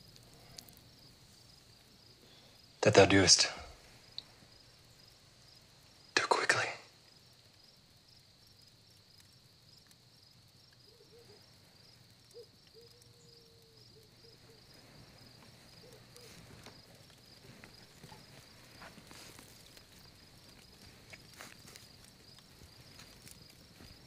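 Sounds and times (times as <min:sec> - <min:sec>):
faint crickets chirping: 0:00.0 - 0:24.0.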